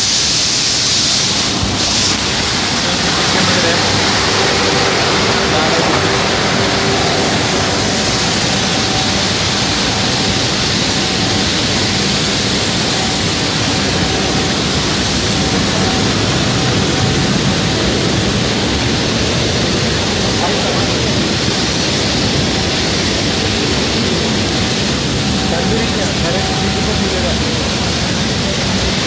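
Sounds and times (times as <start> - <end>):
industrial equipment roar: 0.0 - 29.0.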